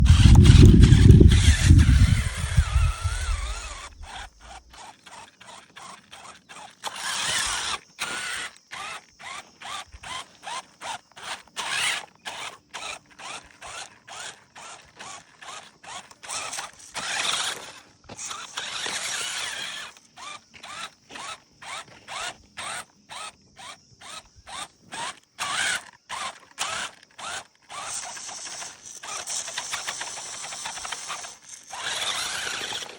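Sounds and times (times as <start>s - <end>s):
toy electric motor whirring: 0.0s - 32.9s.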